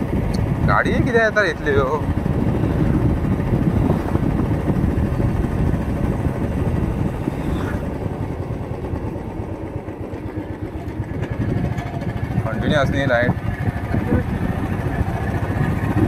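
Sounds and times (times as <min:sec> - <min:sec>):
motorcycle engine running: 0:00.0 - 0:16.0
wind rush over microphone: 0:00.0 - 0:16.0.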